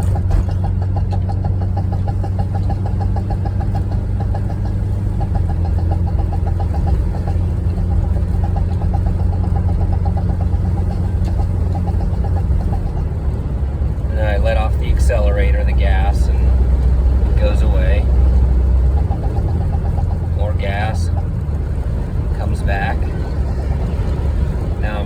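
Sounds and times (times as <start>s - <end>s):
rapid engine popping: 0.0s - 25.0s
van engine running: 0.0s - 25.0s.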